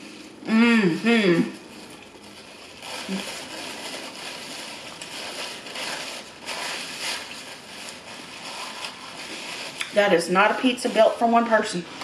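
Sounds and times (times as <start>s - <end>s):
paper napkin rustling: 0.0s - 12.0s.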